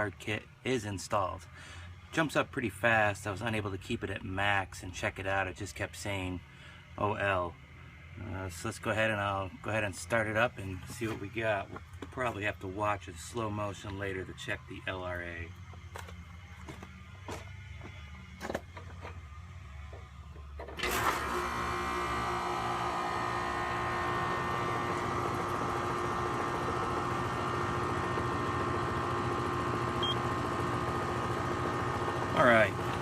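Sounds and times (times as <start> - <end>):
air conditioner compressor humming: 0.0 - 33.0.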